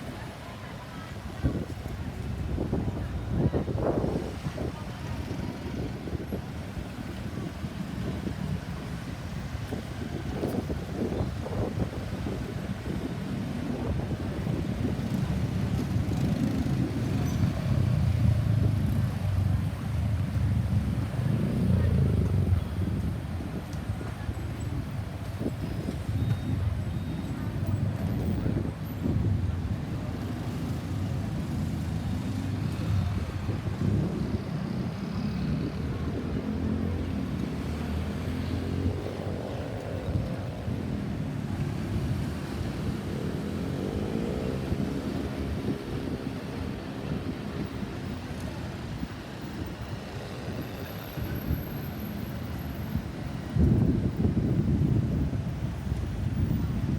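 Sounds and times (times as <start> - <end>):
traffic: 0.0 - 56.9
vehicle engine rumble: 1.1 - 56.9.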